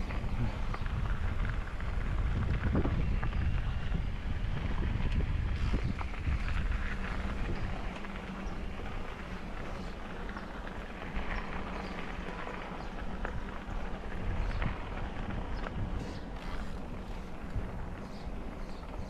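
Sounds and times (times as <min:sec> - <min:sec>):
bicycle tyres rolling on rough path: 0:00.0 - 0:19.0.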